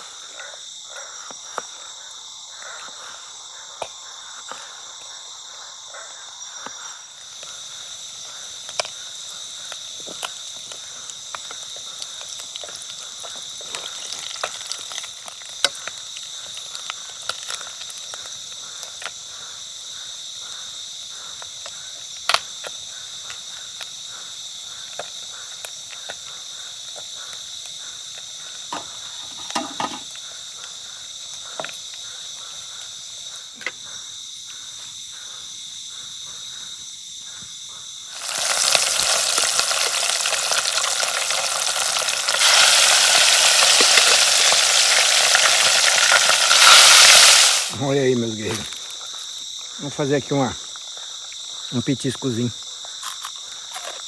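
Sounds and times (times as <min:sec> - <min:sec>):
night insects chorus: 0:00.0 - 0:54.0.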